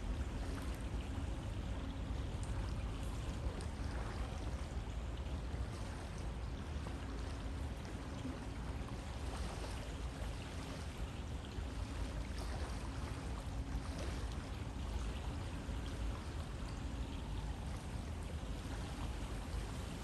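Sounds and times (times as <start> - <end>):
water splashes and trickles: 0.0 - 20.0.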